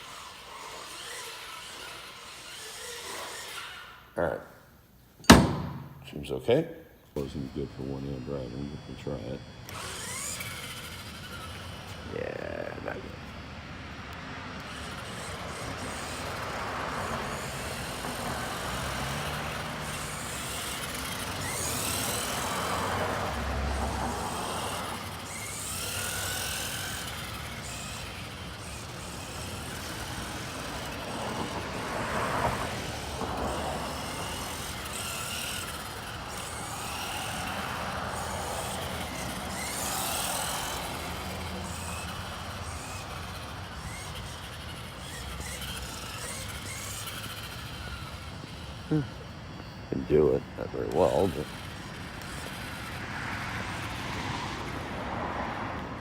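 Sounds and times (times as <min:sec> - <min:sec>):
toy truck electric motor whining: 0:00.0 - 0:56.0.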